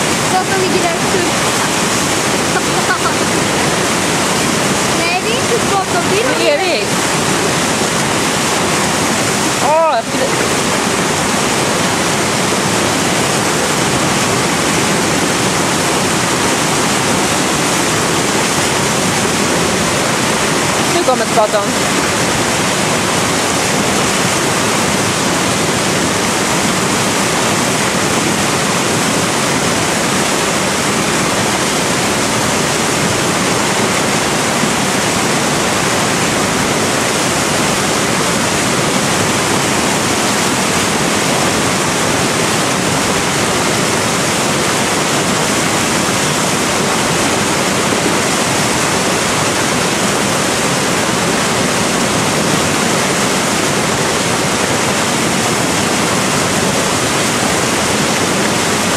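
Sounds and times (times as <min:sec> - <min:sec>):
river rapid roaring: 0:00.0 - 0:58.9.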